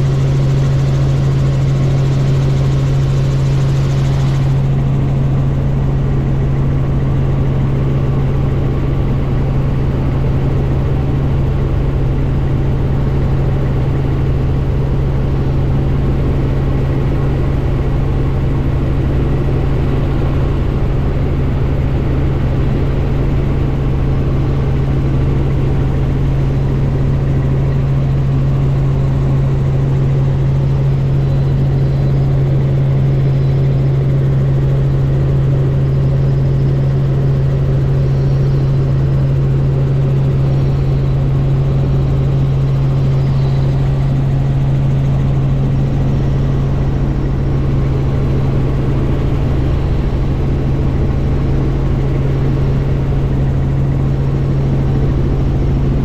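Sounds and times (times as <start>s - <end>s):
helicopter engine and rotors droning: 0.0s - 56.0s.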